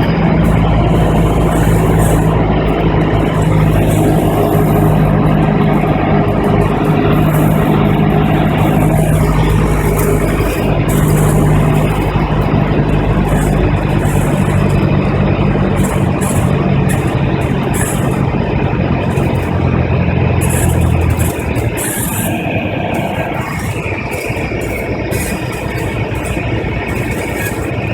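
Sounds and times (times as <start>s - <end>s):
airplane engine and propeller: 0.0s - 27.9s
rushing air noise: 0.0s - 27.9s.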